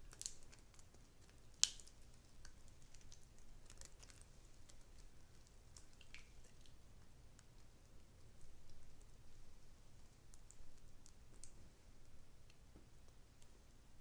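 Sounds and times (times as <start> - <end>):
cheese sauce pouring with soft crackles: 0.0 - 14.0.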